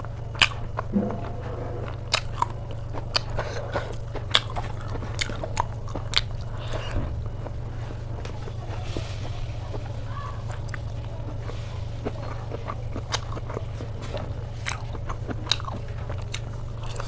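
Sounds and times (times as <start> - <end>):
person chewing: 0.0 - 17.0
steady low hum: 0.0 - 17.0.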